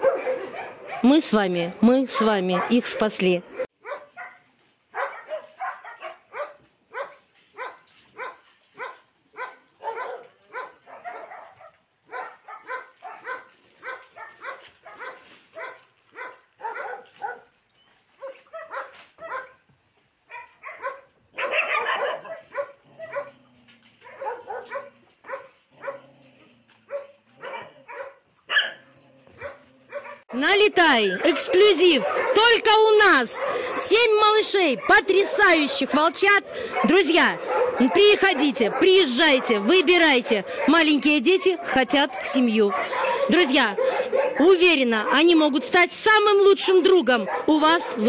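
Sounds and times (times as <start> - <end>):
puppies yapping: 0.0 - 1.0, 2.2 - 17.5, 20.3 - 34.0, 34.6 - 45.3.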